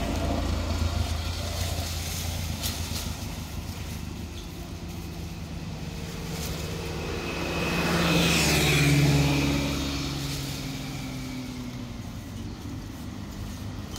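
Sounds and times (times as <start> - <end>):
vehicle engine passing by: 0.0 - 13.9.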